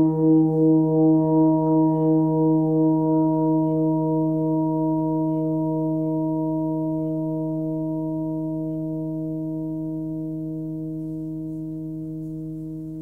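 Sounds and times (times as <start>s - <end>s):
large gong ringing: 0.0s - 13.0s.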